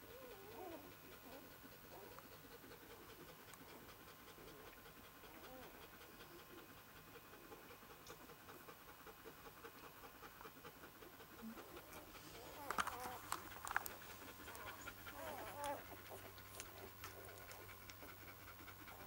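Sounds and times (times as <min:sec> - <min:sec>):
puppies panting: 0:00.0 - 0:19.0
puppies suckling clicks: 0:00.2 - 0:19.0.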